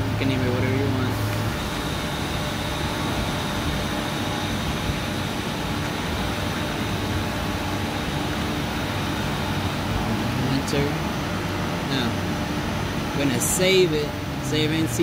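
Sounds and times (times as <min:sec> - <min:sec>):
faint steady whine: 0:00.0 - 0:15.0
machinery hum and hiss: 0:00.0 - 0:15.0.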